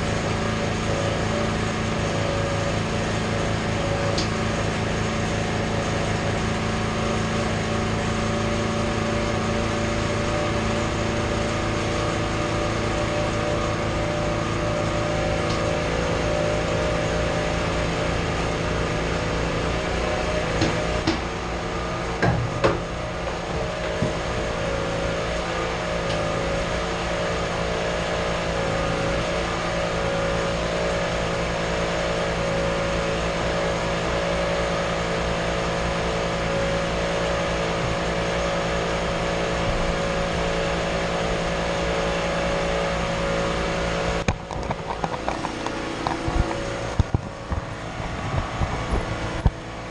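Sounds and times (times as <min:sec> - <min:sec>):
engine hum: 0:00.0 - 0:49.9.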